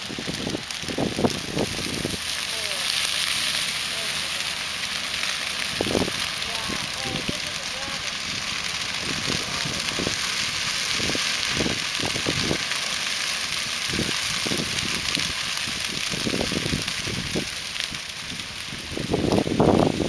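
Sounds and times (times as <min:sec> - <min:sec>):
grass fire crackling: 0:00.0 - 0:20.0.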